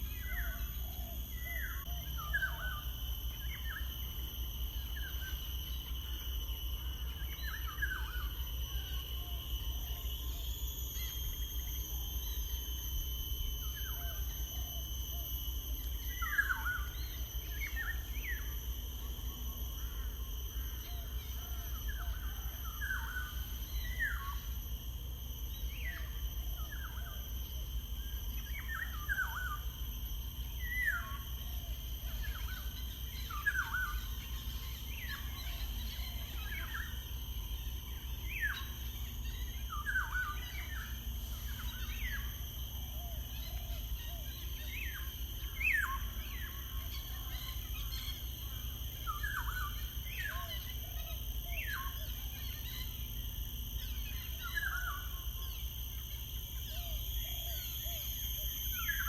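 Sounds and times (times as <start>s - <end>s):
high-pitched whine: 0.0s - 59.0s.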